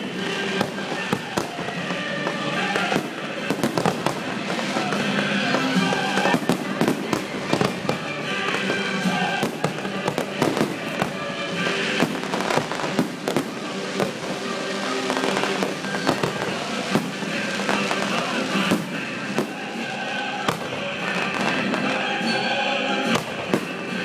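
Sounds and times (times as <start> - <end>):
fireworks bursting and crackling: 0.0 - 24.0
music playing: 0.0 - 24.0.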